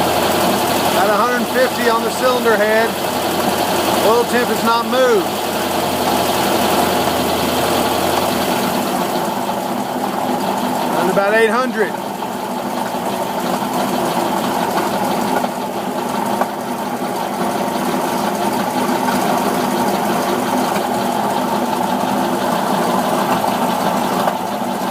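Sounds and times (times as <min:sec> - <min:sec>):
car engine running: 0:00.0 - 0:24.9
fast engine knock: 0:00.0 - 0:24.9.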